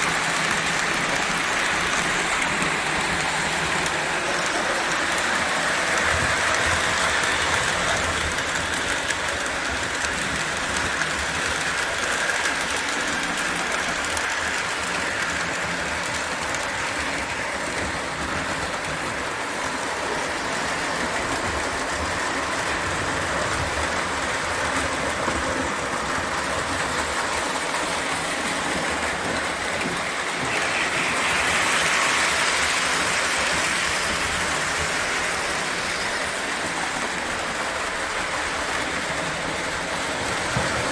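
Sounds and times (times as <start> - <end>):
model train whirring and rattling: 0.0 - 40.9.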